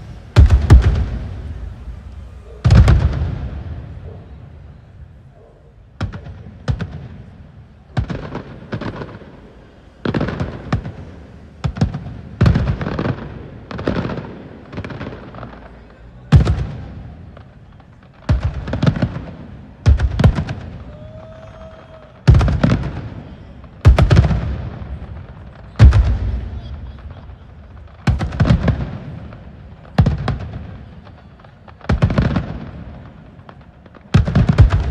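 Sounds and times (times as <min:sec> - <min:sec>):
fireworks bursting with echoes: 0:00.0 - 0:34.9.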